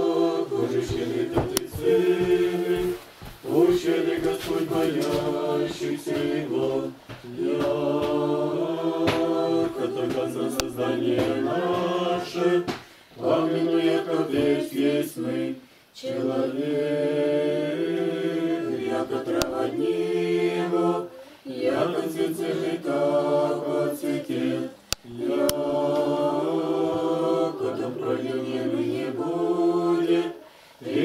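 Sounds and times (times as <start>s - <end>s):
group chanting unaccompanied: 0.0s - 31.0s.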